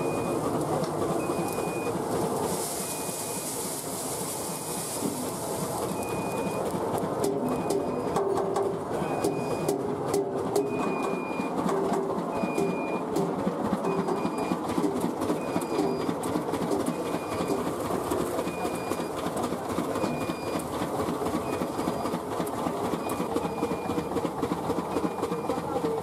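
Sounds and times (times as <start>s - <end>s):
machine clattering: 0.0s - 26.0s.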